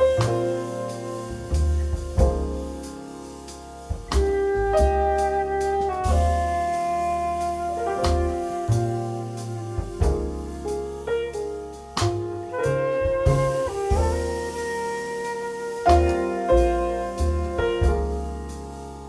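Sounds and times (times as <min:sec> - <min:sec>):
bass: 0:00.0 - 0:19.0
light drums with cymbals: 0:00.0 - 0:19.0
piano chords: 0:00.0 - 0:19.0.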